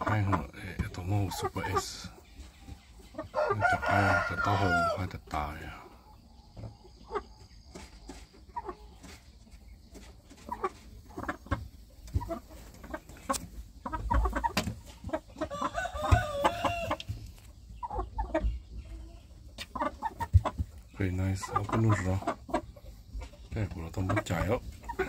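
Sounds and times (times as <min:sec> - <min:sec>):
young roosters clucking and calling: 0:00.0 - 0:25.0.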